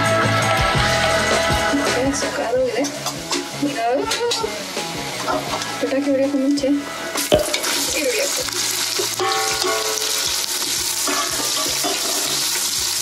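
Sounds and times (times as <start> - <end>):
oil sizzling in a pot: 0.4 - 13.0.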